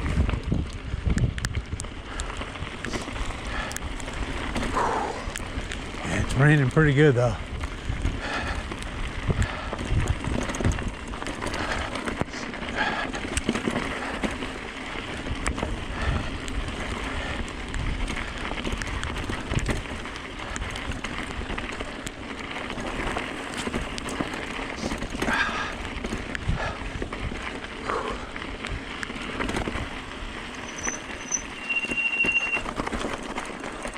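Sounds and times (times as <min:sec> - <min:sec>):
bike clicking and rattling: 0:00.0 - 0:33.9
low irregular rumble: 0:00.0 - 0:33.9
tyres crunching over gravel: 0:00.0 - 0:33.9.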